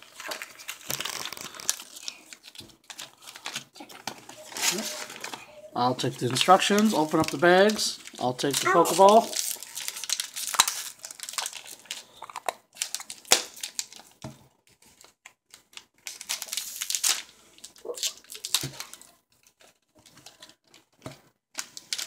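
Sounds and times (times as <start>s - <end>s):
plastic bags crinkling: 0.0s - 21.0s, 21.6s - 22.0s.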